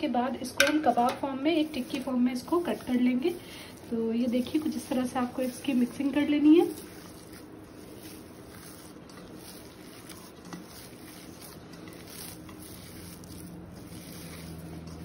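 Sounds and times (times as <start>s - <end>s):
soft squishing of kneaded mixture: 0.0s - 15.0s.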